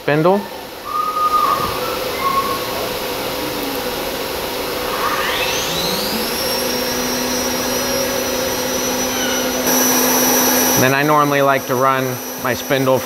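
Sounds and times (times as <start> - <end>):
router spindle whine: 0.6 - 13.0.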